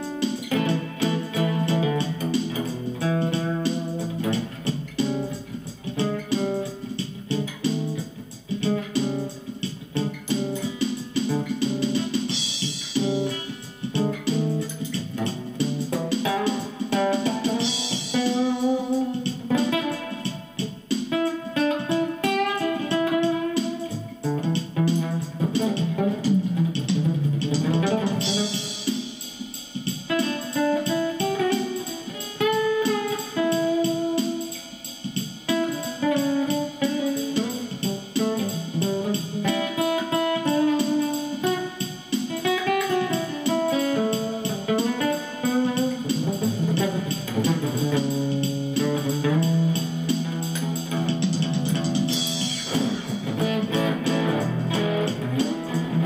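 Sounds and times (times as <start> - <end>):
overdriven guitar slow melody: 0.0 - 29.1, 29.8 - 56.0.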